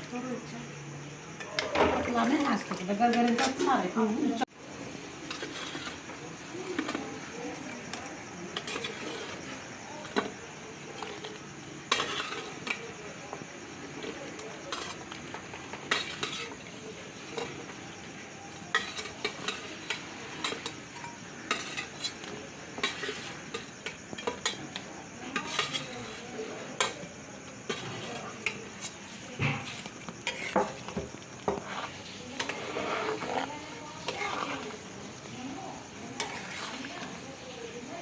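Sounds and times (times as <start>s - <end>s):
food sizzling: 0.0s - 38.0s
metal spoon scraping a pan: 4.6s - 37.5s.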